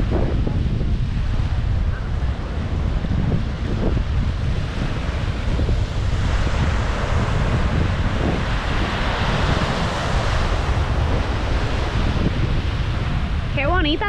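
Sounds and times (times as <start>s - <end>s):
small waves washing ashore: 0.0s - 14.0s
wind buffeting microphone: 0.0s - 14.0s.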